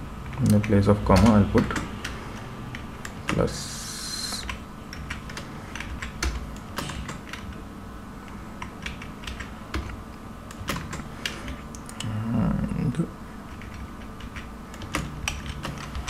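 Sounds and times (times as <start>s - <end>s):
faint low hum: 0.0s - 16.0s
keyboard typing: 0.2s - 7.6s, 8.2s - 12.1s, 13.5s - 16.0s.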